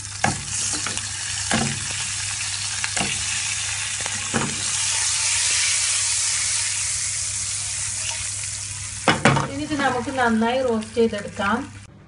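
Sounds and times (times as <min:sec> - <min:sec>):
oil sizzling in a pan: 0:00.0 - 0:11.9.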